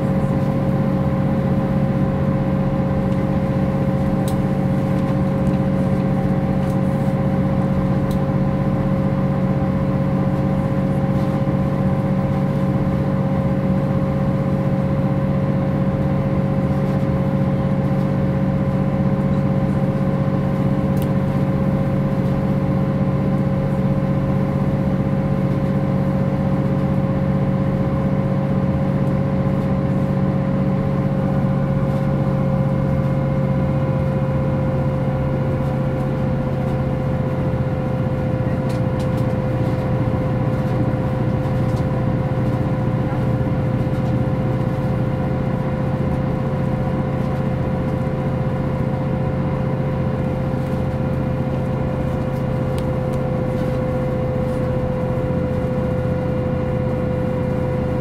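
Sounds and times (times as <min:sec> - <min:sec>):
bus engine droning: 0:00.0 - 0:58.0
engine whine: 0:00.0 - 0:58.0.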